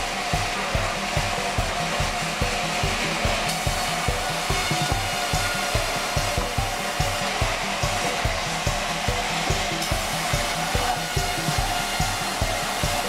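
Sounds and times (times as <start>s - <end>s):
band saw whirring and whining: 0.0s - 13.0s.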